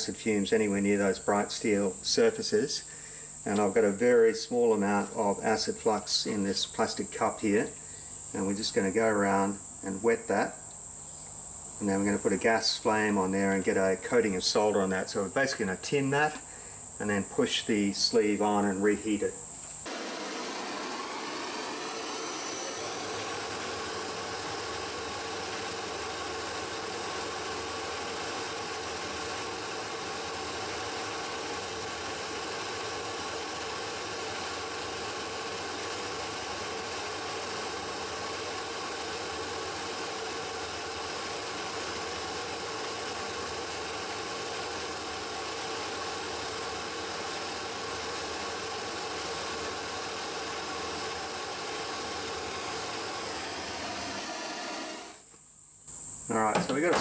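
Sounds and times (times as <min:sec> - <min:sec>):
gas torch burning: 0:00.0 - 0:55.4, 0:56.3 - 0:57.0.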